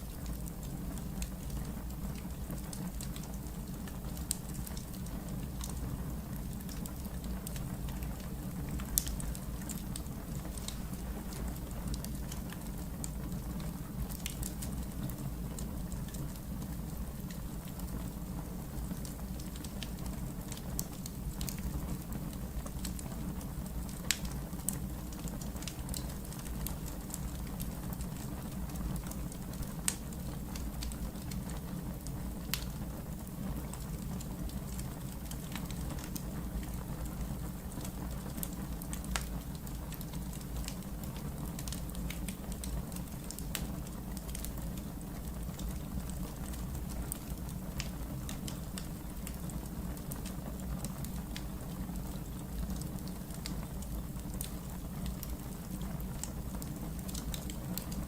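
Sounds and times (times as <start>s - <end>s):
fire crackles and pops: 0.0s - 58.0s
fireplace fire rumbling: 0.0s - 58.0s.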